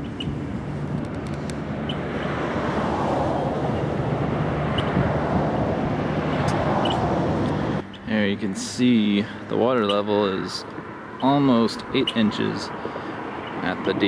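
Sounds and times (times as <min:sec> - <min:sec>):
distant road traffic: 0:00.0 - 0:14.0.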